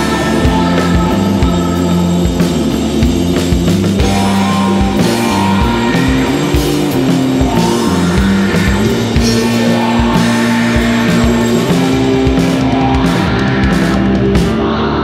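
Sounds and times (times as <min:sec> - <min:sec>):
drum hits: 0:00.0 - 0:14.5
bass guitar: 0:00.0 - 0:15.0
electric guitars: 0:00.0 - 0:15.0.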